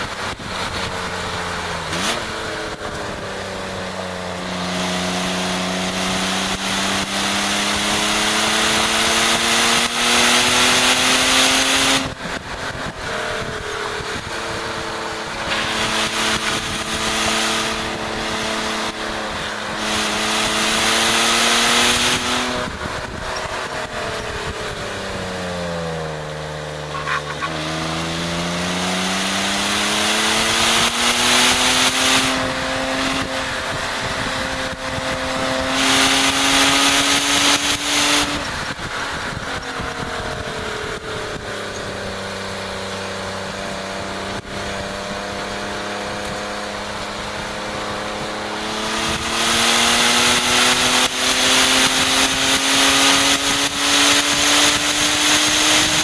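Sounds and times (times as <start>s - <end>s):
wind noise: 0.0s - 26.1s, 26.9s - 56.0s
car engine revving: 0.0s - 56.0s.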